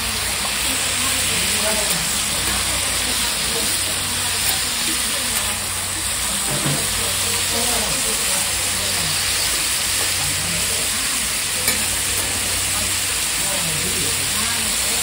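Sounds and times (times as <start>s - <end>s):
meat sizzling on griddle: 0.0s - 15.0s.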